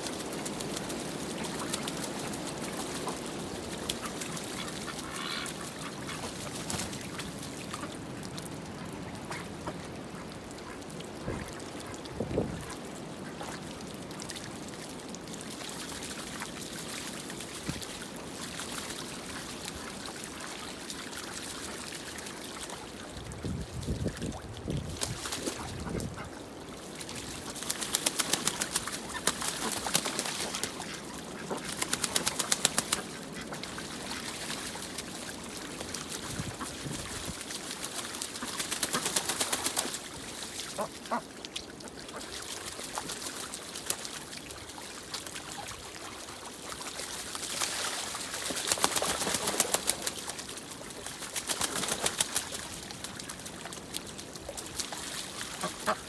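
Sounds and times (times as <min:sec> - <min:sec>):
ducks splashing in water: 0:00.0 - 0:56.0.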